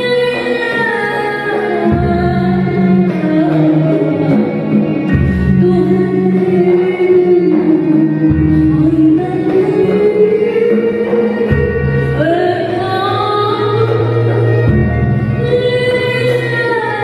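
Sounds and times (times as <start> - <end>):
oud strings and guitar playing: 0.0 - 17.0.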